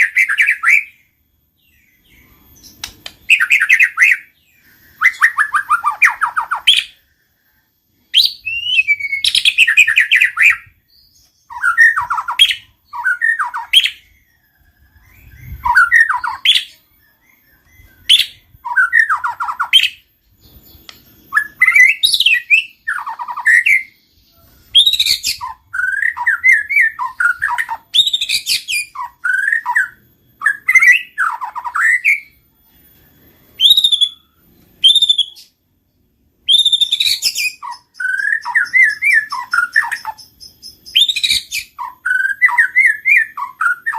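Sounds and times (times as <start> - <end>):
bird singing whistles and chatter: 1.7 - 35.6, 36.4 - 43.9.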